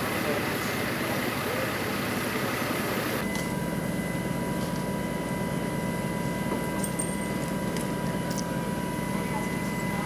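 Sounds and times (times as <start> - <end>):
machinery hum with high whine: 0.0 - 10.0.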